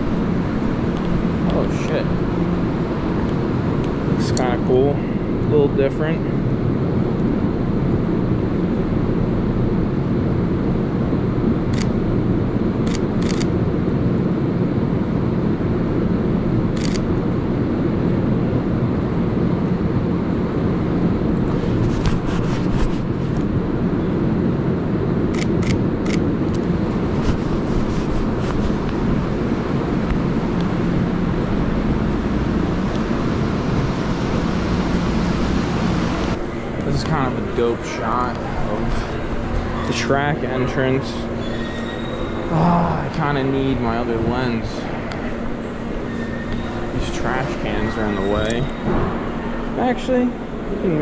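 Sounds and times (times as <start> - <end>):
underground train platform rumble: 0.0 - 51.0.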